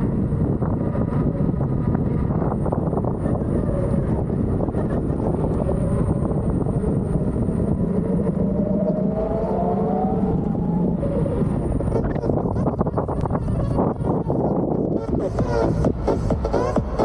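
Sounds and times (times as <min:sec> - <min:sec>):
rising motor whine: 0:00.0 - 0:17.0
wind and road noise: 0:00.0 - 0:17.0.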